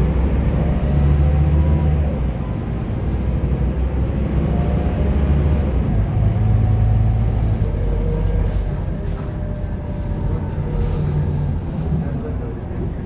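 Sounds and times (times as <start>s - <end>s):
bus diesel engine accelerating: 0.0s - 13.0s.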